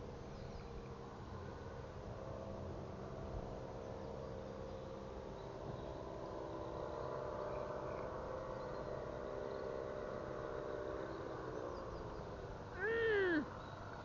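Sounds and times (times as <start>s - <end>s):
droning hum: 0.0s - 14.0s.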